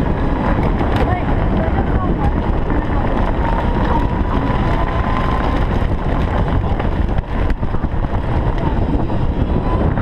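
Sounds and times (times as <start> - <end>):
golf cart rumbling: 0.0 - 10.0
wind buffeting microphone: 0.0 - 10.0.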